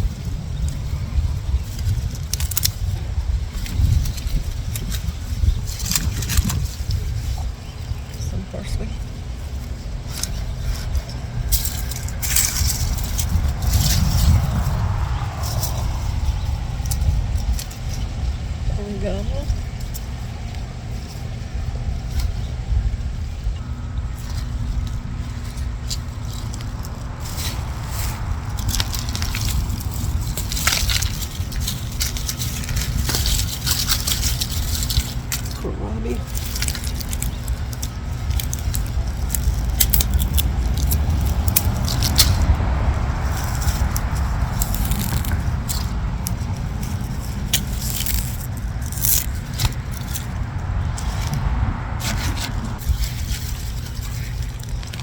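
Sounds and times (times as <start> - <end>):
sharp crackles: 0.0 - 8.3, 9.0 - 55.0
plants crunching and rustling: 0.0 - 55.0
steady low rumble: 0.0 - 55.0.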